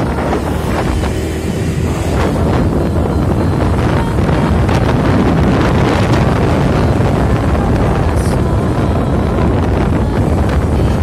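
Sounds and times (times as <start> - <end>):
motorbike rumble: 0.0 - 11.0
wind buffeting microphone: 0.0 - 11.0.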